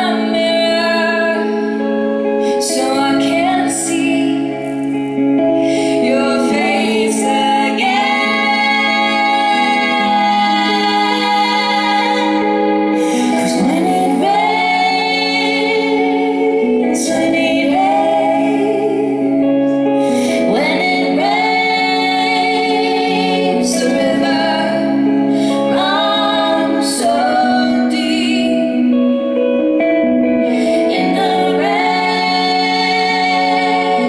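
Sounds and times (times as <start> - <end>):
electric guitar: 0.0 - 34.0
steady held notes: 0.0 - 34.0
two women singing: 0.0 - 34.0.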